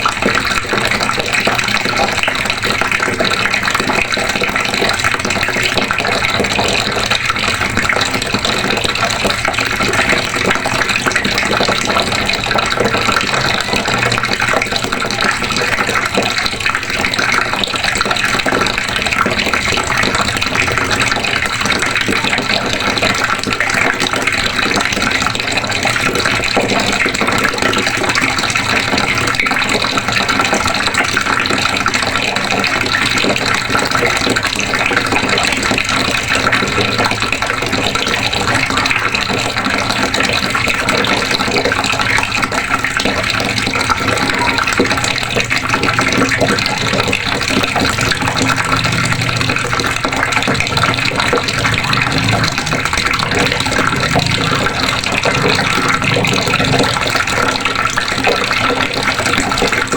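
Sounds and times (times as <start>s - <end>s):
water running from a faucet: 0.0s - 59.9s.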